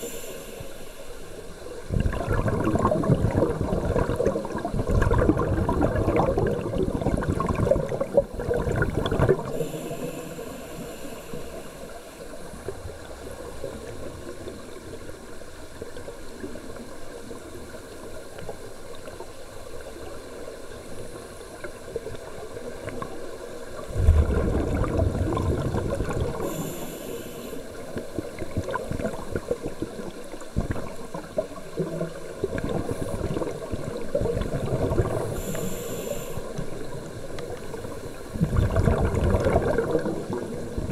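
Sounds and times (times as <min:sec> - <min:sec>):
underwater exhaust bubbles: 0:00.0 - 0:40.9.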